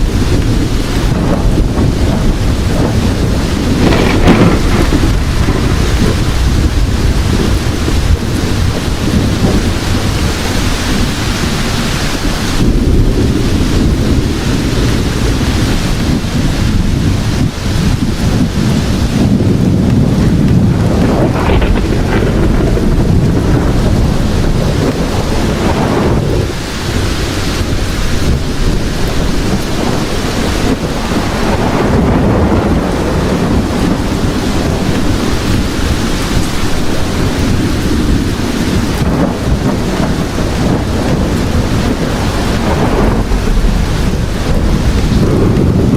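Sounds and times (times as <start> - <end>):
rolling thunder rumble: 0.0 - 45.9
steady rain: 0.0 - 45.9.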